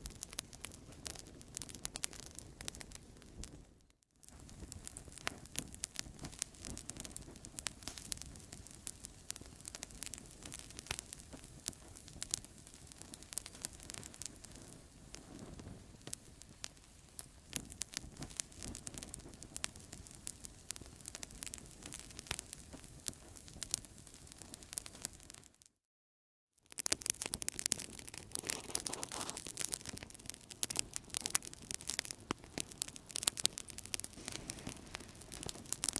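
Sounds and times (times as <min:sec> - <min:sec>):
campfire crackling and popping: 0:00.0 - 0:25.6, 0:26.6 - 0:35.9.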